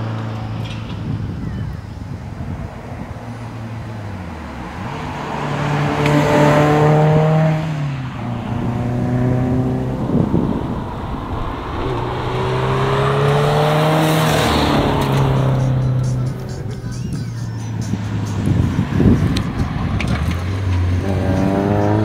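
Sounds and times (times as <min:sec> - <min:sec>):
rally car engine passing at speed: 0:02.9 - 0:22.0.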